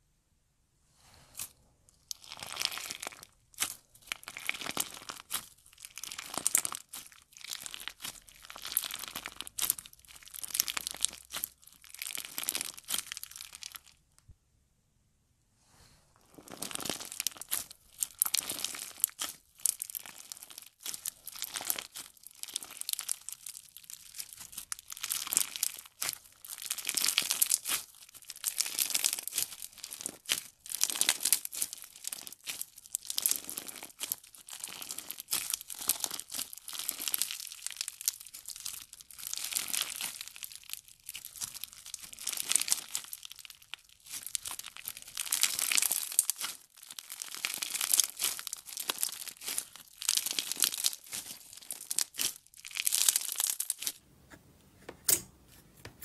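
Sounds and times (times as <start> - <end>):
slime crunching and crackling: 1.3 - 14.1, 16.2 - 54.0.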